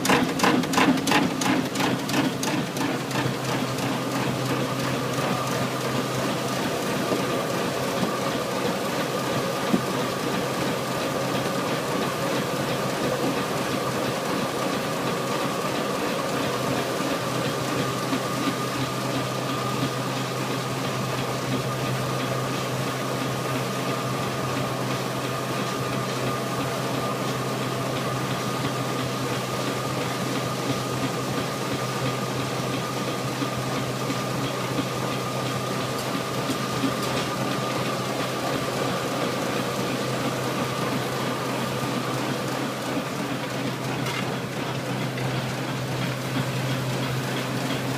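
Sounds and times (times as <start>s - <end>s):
machinery humming and whirring: 0.0s - 47.9s.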